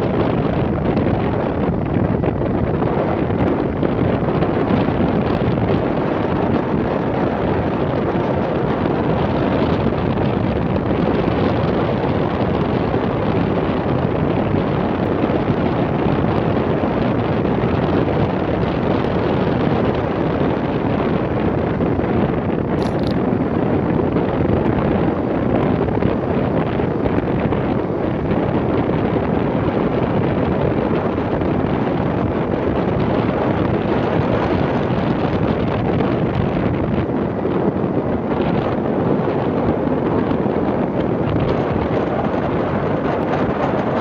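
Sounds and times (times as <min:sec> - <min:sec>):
wind rush on microphone: 0:00.0 - 0:44.0
vehicle running noise: 0:02.3 - 0:44.0.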